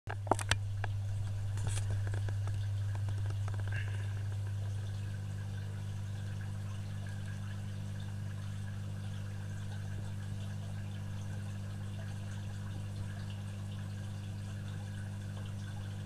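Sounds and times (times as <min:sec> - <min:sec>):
steady low hum: 0:00.1 - 0:16.0
water trickling: 0:00.1 - 0:16.0.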